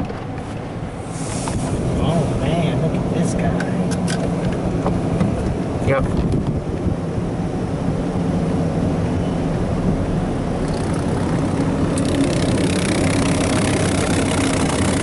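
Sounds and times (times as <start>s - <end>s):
car wash machine hum: 0.4s - 15.0s.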